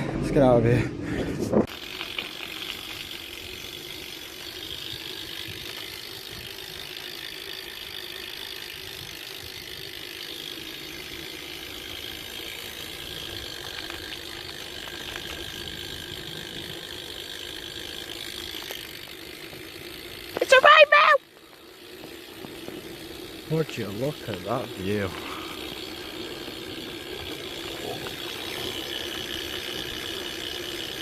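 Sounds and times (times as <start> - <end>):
bike freewheel ticking: 1.6 - 31.0.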